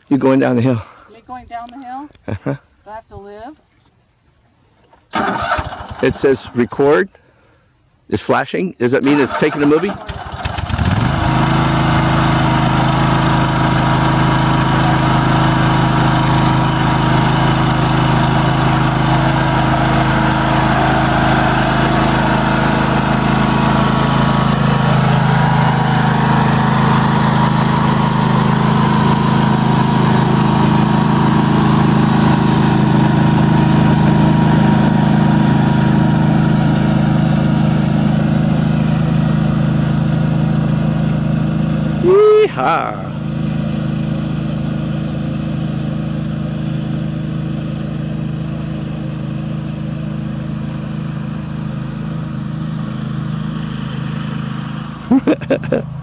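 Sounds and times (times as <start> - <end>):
lawn mower engine running: 5.1 - 6.9, 9.0 - 56.0.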